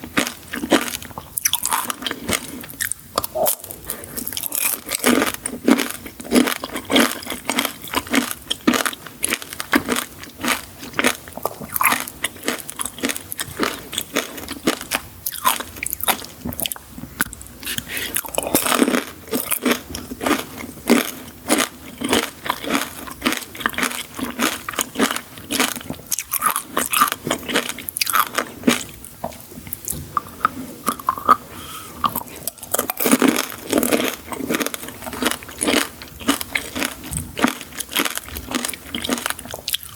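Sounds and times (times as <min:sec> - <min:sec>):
person chewing crunchy sweets: 0:00.0 - 0:39.9.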